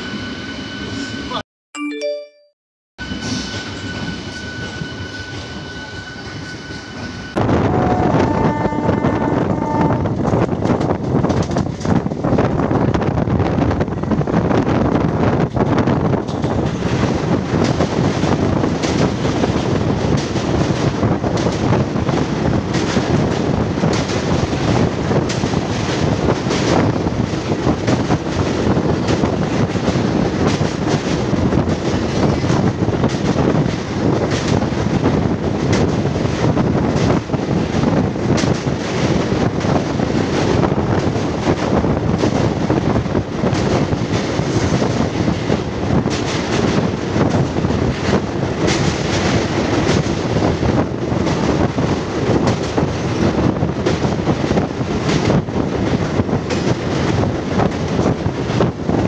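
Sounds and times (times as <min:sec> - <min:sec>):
train wheels rumbling on rails: 0:03.0 - 0:59.0.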